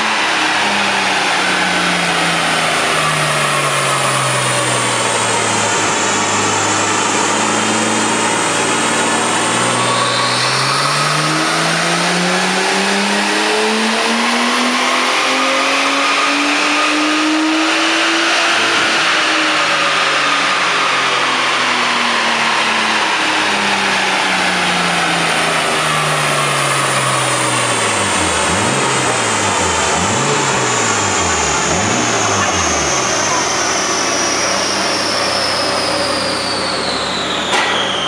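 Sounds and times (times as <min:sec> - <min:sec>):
car engine revving on dyno: 0:00.0 - 0:38.0.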